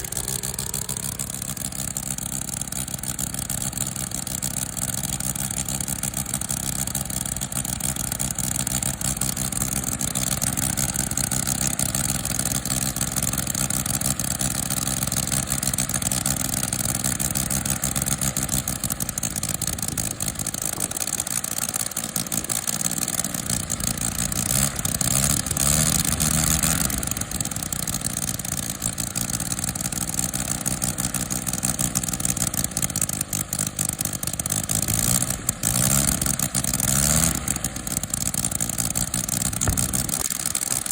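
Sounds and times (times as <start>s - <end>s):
model engine running: 0.0s - 40.9s.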